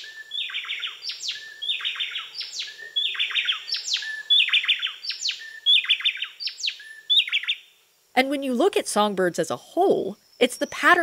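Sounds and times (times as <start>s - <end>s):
wrens singing a duet: 0.0s - 11.0s.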